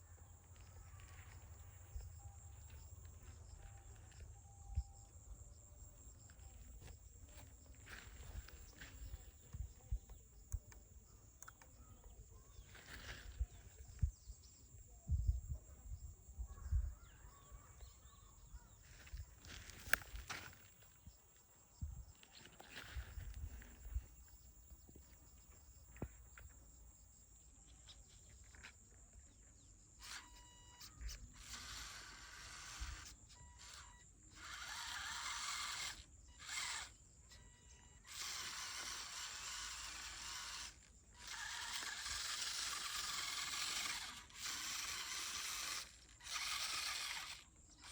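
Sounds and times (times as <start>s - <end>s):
toy electric motor whirring: 0.0s - 47.9s.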